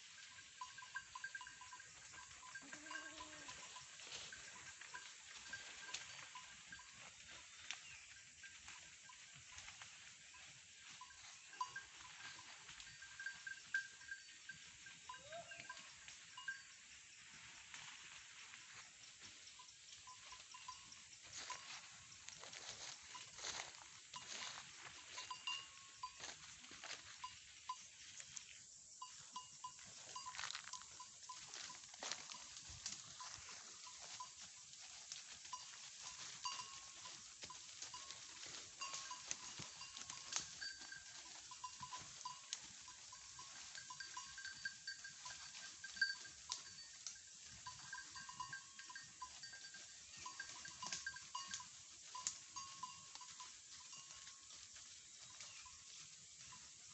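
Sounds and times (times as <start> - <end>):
goat bells jingling: 0.0 - 56.9.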